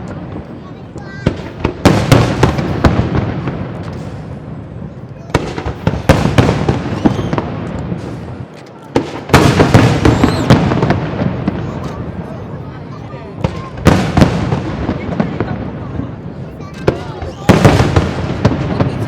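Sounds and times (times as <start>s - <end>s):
fireworks cracks and booms: 0.0s - 19.0s.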